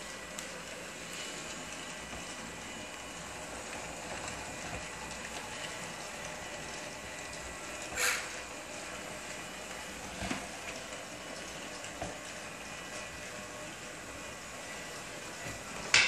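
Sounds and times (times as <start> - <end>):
robotic mop running on floor: 0.0 - 16.0.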